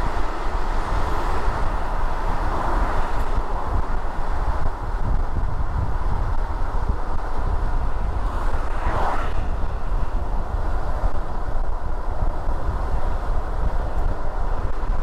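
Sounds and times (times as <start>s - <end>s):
road and tyre rumble: 0.0s - 15.0s
wind noise: 0.0s - 15.0s.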